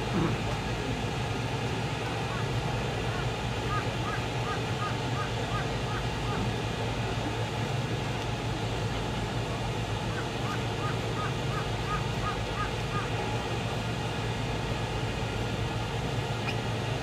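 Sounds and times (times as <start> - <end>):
ferry engines humming: 0.0 - 17.0
harbour noise: 0.0 - 17.0.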